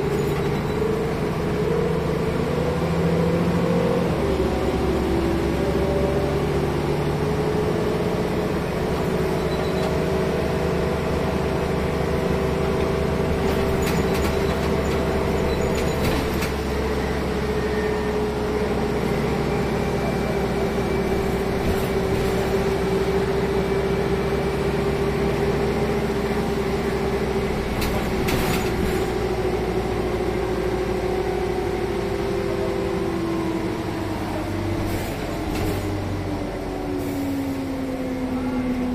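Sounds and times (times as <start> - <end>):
bus engine hum and whine: 0.0 - 38.9.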